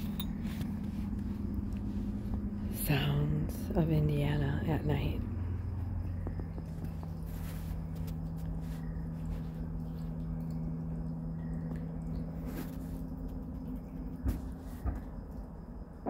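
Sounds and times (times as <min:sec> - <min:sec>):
high insect trill: 0:00.0 - 0:16.0
low mechanical hum: 0:00.0 - 0:16.0.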